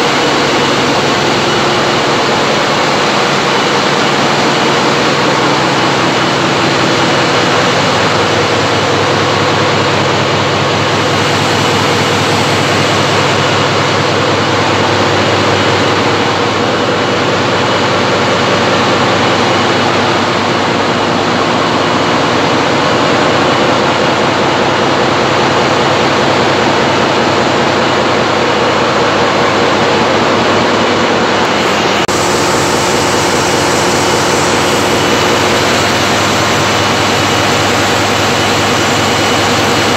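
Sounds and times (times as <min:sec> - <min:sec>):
diesel generator engines droning: 0:00.0 - 0:39.9.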